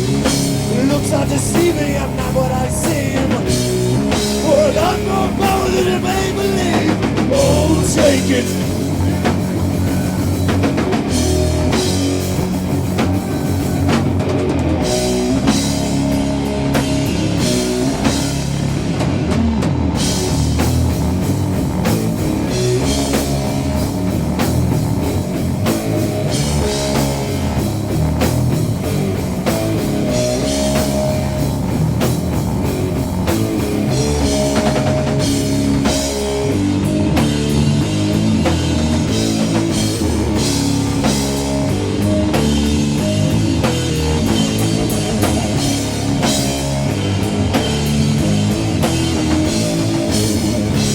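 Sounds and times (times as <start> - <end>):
bass guitar: 0.0 - 50.9
distorted electric guitars: 0.0 - 50.9
drum kit steady beat: 0.0 - 50.9.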